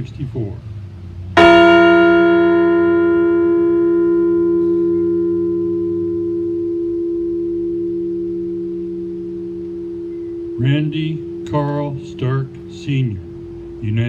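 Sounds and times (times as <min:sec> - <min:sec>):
bell struck and ringing: 0:01.4 - 0:14.0.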